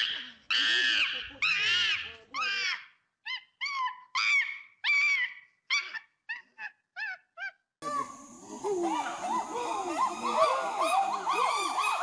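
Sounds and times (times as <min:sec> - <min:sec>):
monkey squealing: 0:00.0 - 0:07.6, 0:08.7 - 0:12.0.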